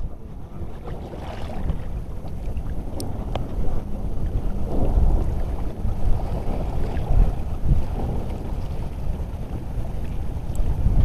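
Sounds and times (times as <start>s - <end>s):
splashing wavelets: 0.0s - 11.0s
wind buffeting microphone: 0.0s - 11.0s.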